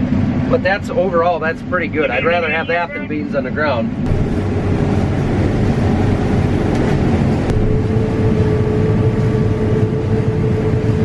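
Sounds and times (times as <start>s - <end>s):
combine harvester rumbling: 0.0s - 11.0s
steady hum: 1.6s - 11.0s.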